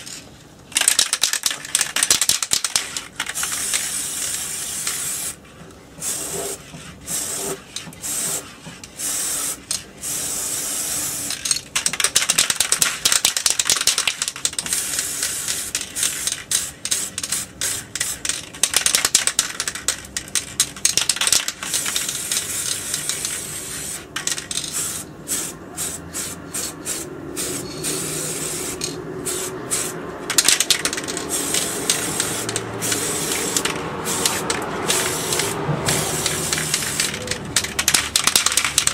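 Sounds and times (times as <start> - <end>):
spray paint can hissing: 0.7 - 5.4, 6.0 - 38.9.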